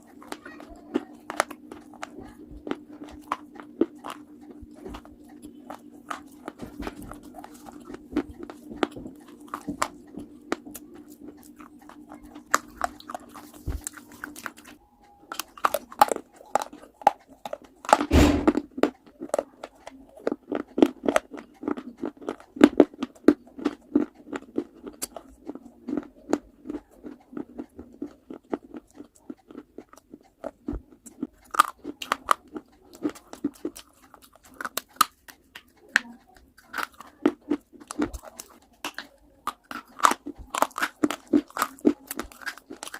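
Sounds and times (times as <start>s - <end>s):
clay crunching when chewed: 0.0s - 42.9s.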